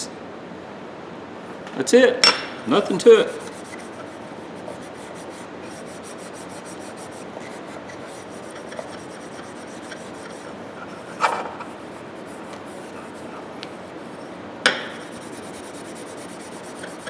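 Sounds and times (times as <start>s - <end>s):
steel wool rubbing metal: 2.7s - 17.0s.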